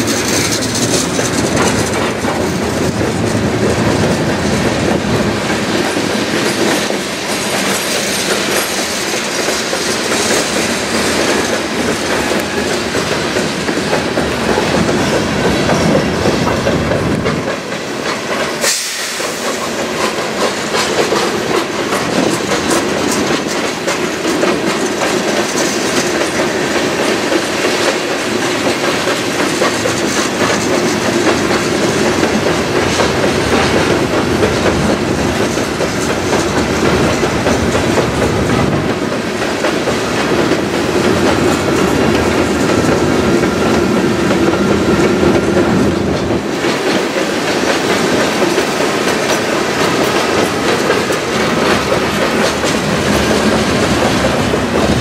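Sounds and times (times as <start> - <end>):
clickety-clack of wheels on track: 0.0 - 55.0
train wheels rumbling on rails: 0.0 - 55.0.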